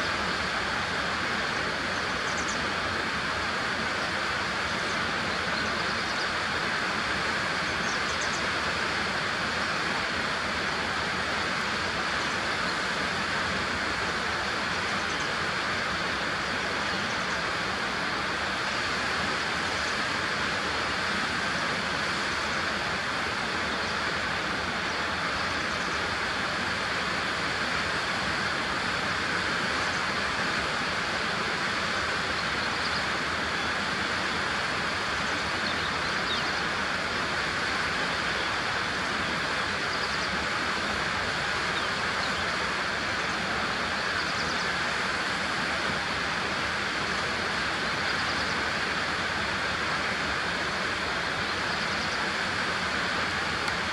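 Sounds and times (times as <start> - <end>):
steady rushing noise: 0.0 - 53.9.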